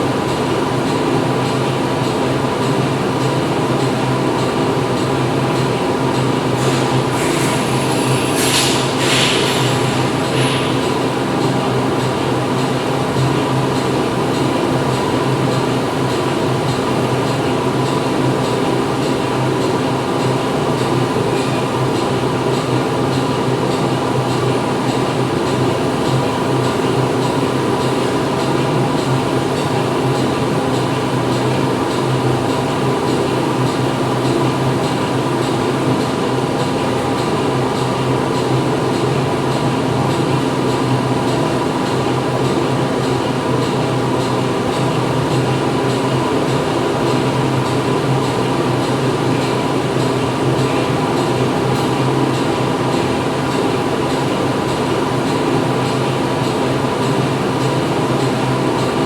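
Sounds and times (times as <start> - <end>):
factory machinery hum: 0.0 - 59.0.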